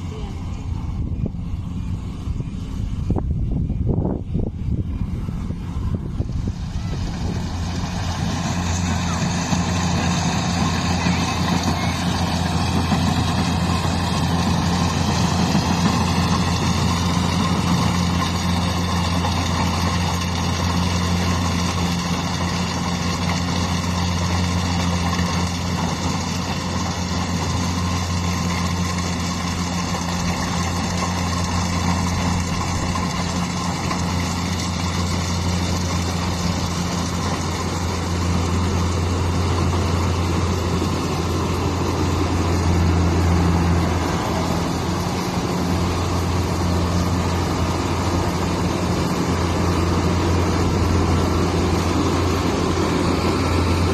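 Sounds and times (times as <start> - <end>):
harvester engine running: 0.0 - 53.9
high whine: 0.0 - 53.9.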